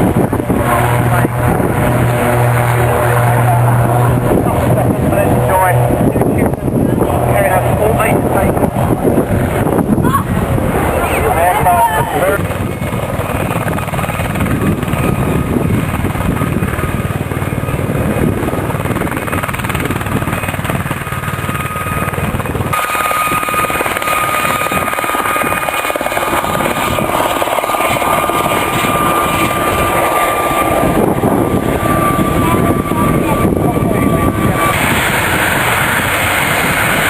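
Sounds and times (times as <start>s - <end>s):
aircraft engine noise: 0.0s - 37.0s
steady engine whine: 0.0s - 37.0s.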